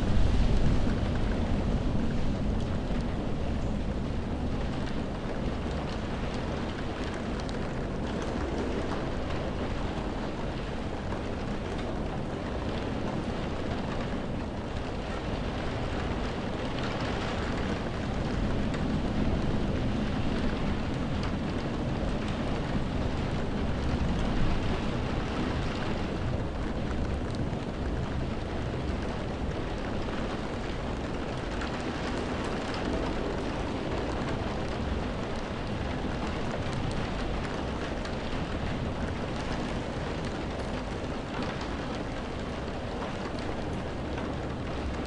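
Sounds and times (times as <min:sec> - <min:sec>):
heavy rain on window glass: 0:00.0 - 0:45.0.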